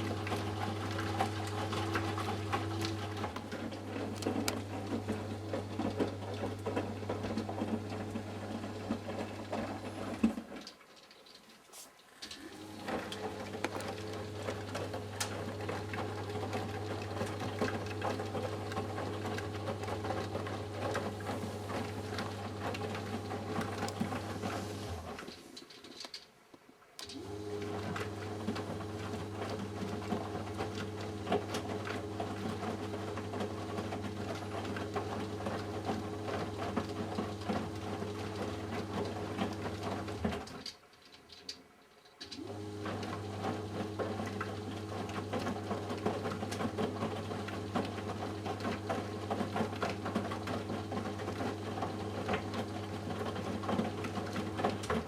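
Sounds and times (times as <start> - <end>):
washing machine drum motor humming: 0.0 - 10.6, 12.3 - 25.4, 27.1 - 40.6, 42.3 - 55.0.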